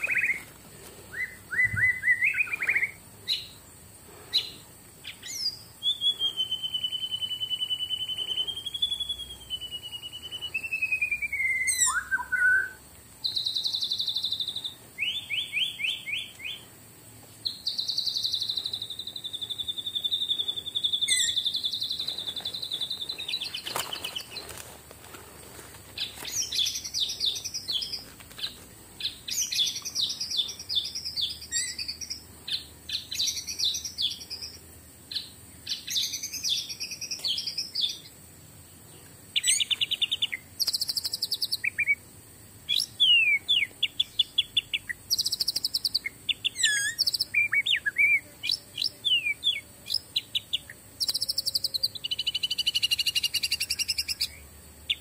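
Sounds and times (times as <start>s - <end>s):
birds chirping and trilling: 0.0s - 16.8s, 17.4s - 24.8s, 25.4s - 42.0s, 42.7s - 55.0s.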